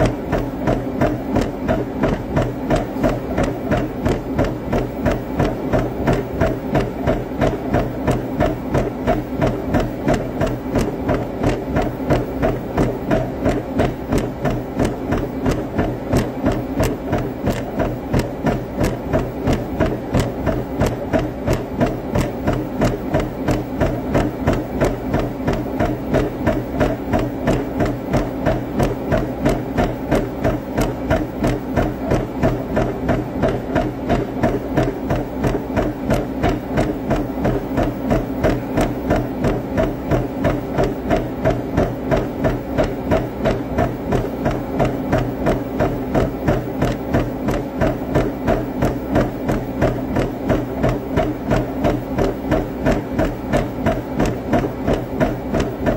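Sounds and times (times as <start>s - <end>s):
running footfalls on treadmill: 0.0s - 55.9s
treadmill motor hum: 0.0s - 55.9s.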